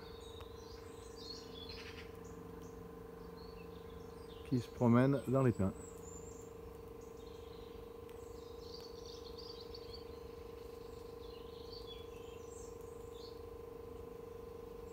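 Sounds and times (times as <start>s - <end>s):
faint steady hum: 0.0s - 14.9s
small birds chirping: 0.0s - 14.9s.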